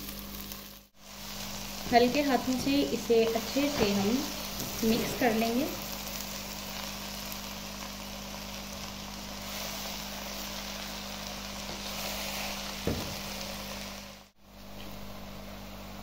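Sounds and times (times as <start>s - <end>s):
greens sizzling in hot oil: 0.0s - 16.0s.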